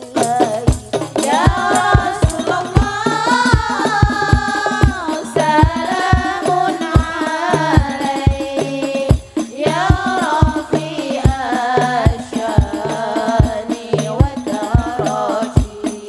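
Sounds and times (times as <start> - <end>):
frame drums beating: 0.0 - 16.0
women singing together: 0.0 - 16.0.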